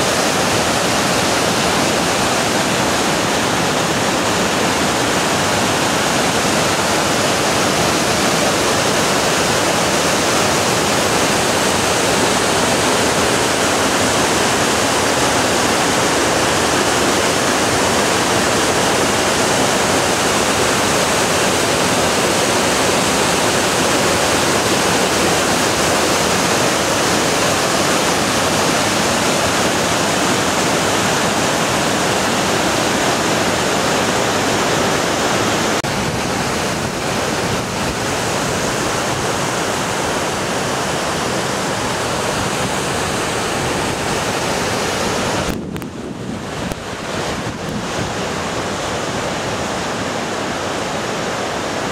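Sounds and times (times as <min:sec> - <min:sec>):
river rushing over boulders: 0:00.0 - 0:51.9.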